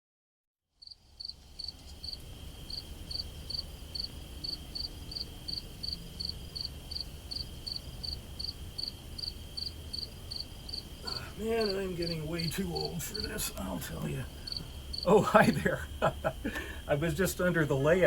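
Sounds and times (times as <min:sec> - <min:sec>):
cricket chirping: 0:00.8 - 0:18.0
faint high hum: 0:01.8 - 0:18.0.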